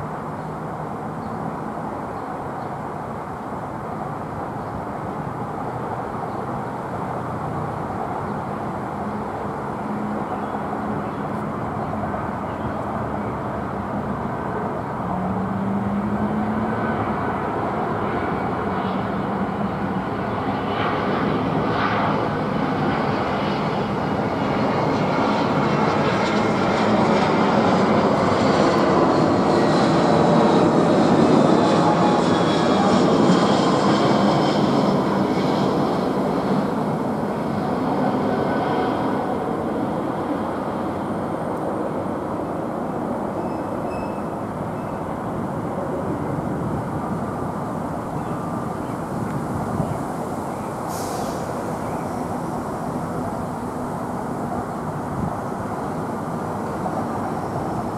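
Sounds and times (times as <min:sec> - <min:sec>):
jet airliner passing overhead: 0:00.0 - 0:57.9.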